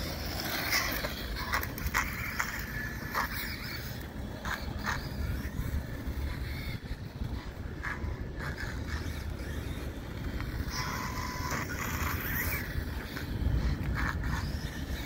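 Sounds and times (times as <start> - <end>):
toy motorcycle motor whine: 0.0 - 15.0.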